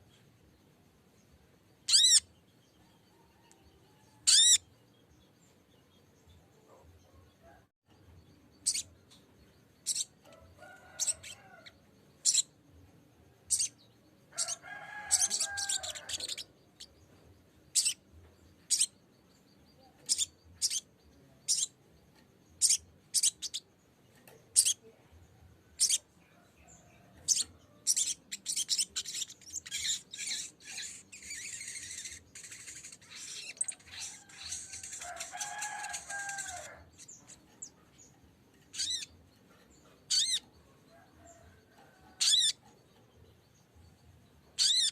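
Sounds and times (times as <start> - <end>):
bird chattering song: 1.8 - 2.9, 4.1 - 7.2, 8.1 - 12.7, 13.3 - 25.1, 25.7 - 44.9.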